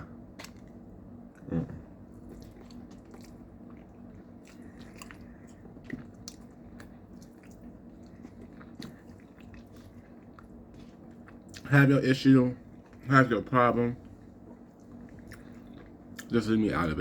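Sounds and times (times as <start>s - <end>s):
person chewing food: 0.2s - 11.7s, 12.6s - 13.1s, 14.0s - 16.3s.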